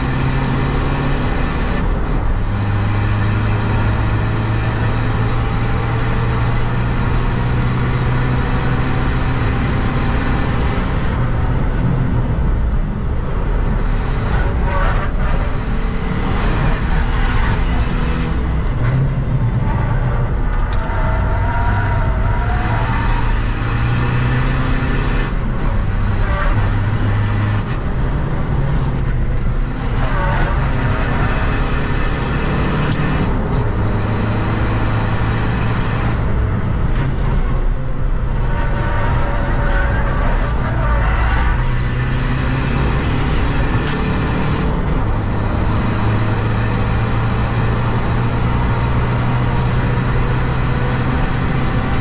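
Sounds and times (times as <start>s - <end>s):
diesel engine under hard driving: 0.0s - 52.0s
road and wind noise: 0.0s - 52.0s.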